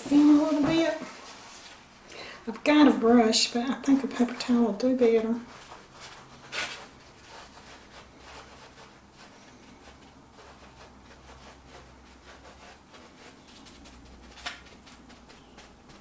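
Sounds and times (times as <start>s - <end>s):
paper towel rubbing and patting: 0.0s - 1.8s, 3.6s - 16.0s.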